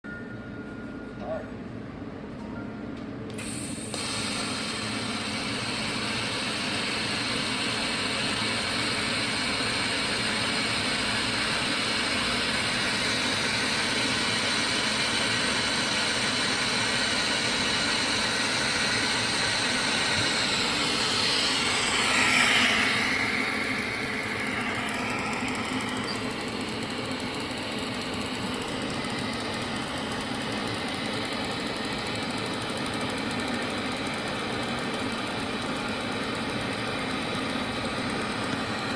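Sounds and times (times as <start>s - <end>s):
seam welder machine running: 3.3s - 38.9s.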